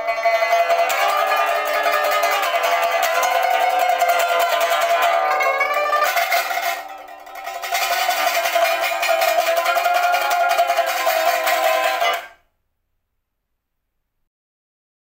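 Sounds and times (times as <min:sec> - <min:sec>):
pipa strummed rapidly: 0:00.0 - 0:12.4.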